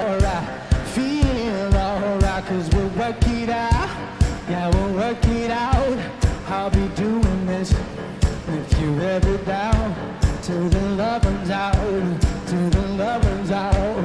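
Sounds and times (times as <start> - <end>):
pop-rock song: 0.0 - 14.0.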